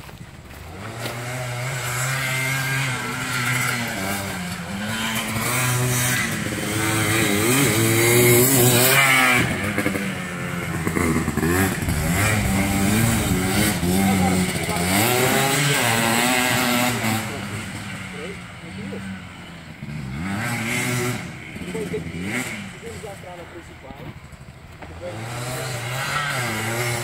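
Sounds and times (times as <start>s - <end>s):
quad engine revving: 0.0s - 27.0s.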